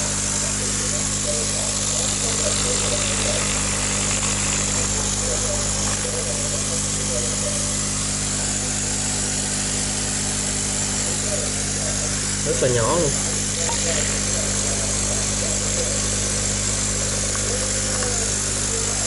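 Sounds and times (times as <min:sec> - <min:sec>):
air pump humming and hissing: 0:00.0 - 0:19.0.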